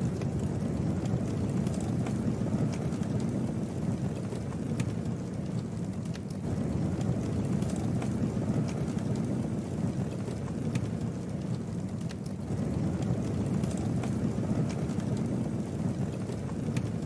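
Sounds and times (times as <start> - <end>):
burning wood crackling and popping: 0.0 - 17.0
rush of flames: 0.0 - 17.0.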